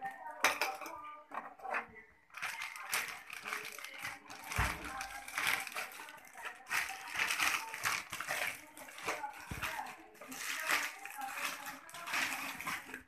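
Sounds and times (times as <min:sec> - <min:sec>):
plastic wrapping crinkling: 0:02.3 - 0:13.0.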